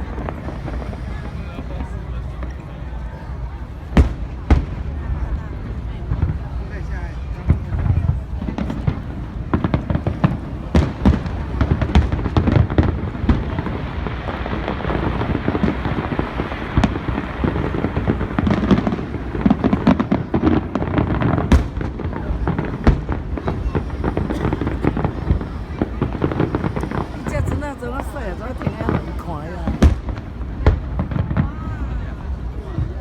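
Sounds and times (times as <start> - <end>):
fireworks bangs and crackles: 0.0 - 33.0
loud firework crack: 0.0 - 33.0.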